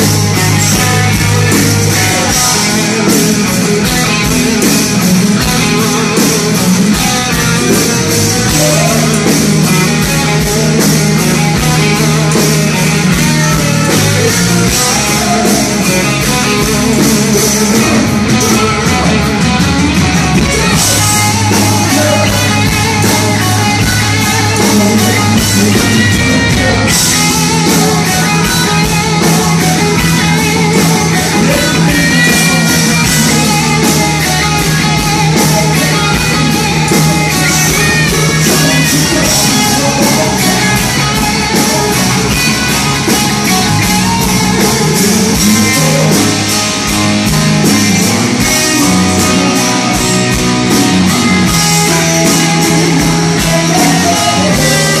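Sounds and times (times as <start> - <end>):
bass guitar: 0.0 - 55.0
drums keeping a steady beat: 0.0 - 55.0
electric guitar: 0.0 - 55.0.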